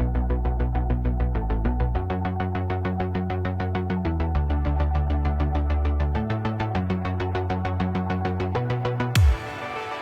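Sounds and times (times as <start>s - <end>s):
electronic music with synthesizer: 0.0s - 10.0s.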